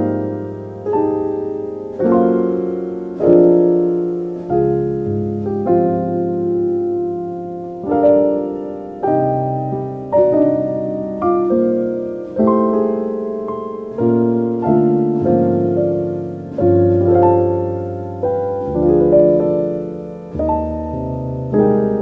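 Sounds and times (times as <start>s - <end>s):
slow soft piano chords: 0.0s - 22.0s.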